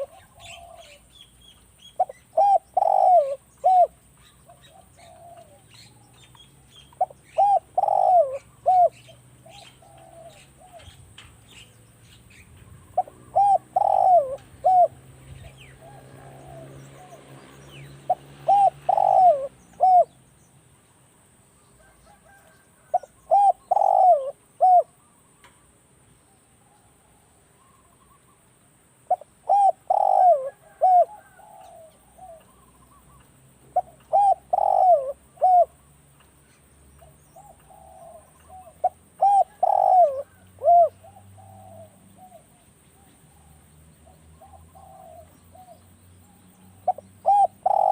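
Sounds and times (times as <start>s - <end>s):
dove cooing: 0.0s - 11.6s, 12.3s - 20.2s, 21.8s - 25.1s, 29.1s - 35.8s, 37.0s - 47.9s
small birds chirping: 0.0s - 21.7s, 22.5s - 26.2s, 31.5s - 47.9s.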